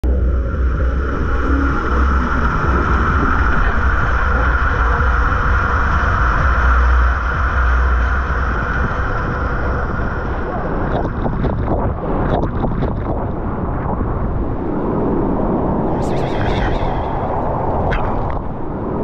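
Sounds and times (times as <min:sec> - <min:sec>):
low rumble of tube slide: 0:00.0 - 0:19.0.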